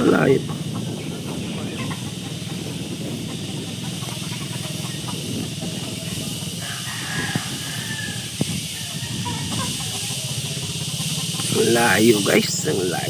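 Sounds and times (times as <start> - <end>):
motorbike engine drone: 0.0 - 13.0
wind rushing over microphone: 0.0 - 13.0.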